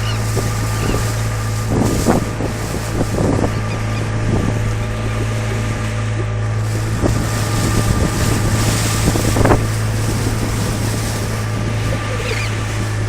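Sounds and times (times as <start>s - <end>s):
motorboat engine running: 0.0s - 13.0s
water noise: 0.0s - 13.0s
wind buffeting microphone: 0.0s - 13.0s.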